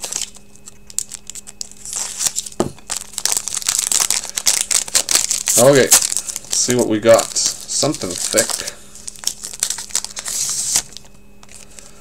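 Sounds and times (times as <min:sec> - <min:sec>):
foil wrapper crinkling and tearing: 0:00.0 - 0:11.8.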